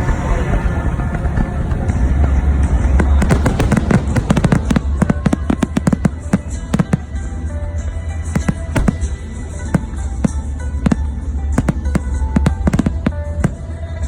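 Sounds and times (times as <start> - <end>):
fireworks cracking and popping: 0.0 - 14.0
low rumble: 0.0 - 14.0.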